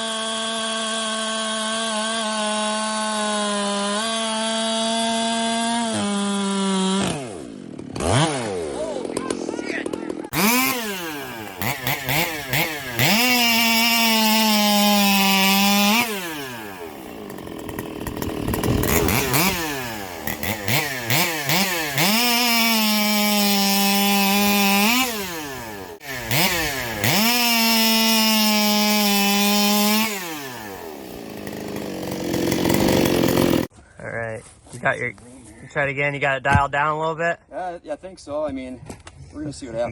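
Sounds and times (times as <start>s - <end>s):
chainsaw engine revving: 0.0s - 33.7s.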